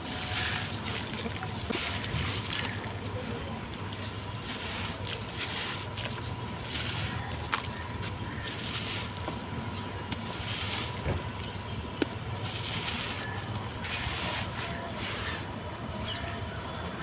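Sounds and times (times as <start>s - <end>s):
blocks crumbling and crunching: 0.0s - 15.4s.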